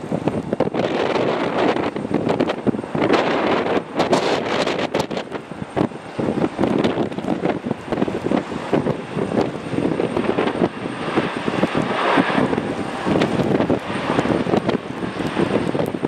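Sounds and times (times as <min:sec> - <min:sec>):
jet airliner engines: 0:00.0 - 0:16.0
wind buffeting microphone: 0:00.0 - 0:16.0.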